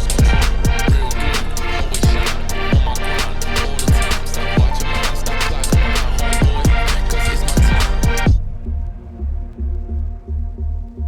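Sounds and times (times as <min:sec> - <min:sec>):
pulsing bass beat: 0:00.0 - 0:11.0.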